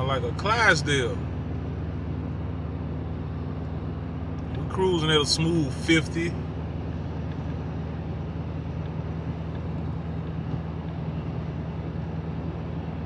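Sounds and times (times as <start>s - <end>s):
engine drone: 0.0s - 13.0s
road and tyre noise: 0.0s - 13.0s.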